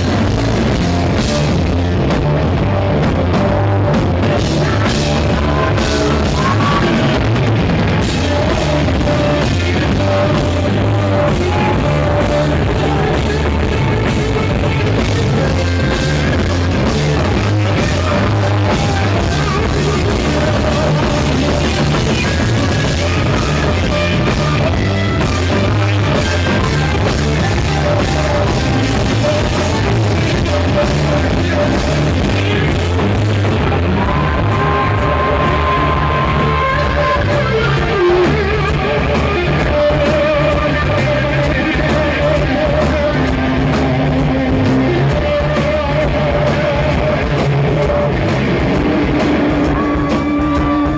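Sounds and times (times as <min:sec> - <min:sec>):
rock band playing live: 0:00.0 - 0:50.9.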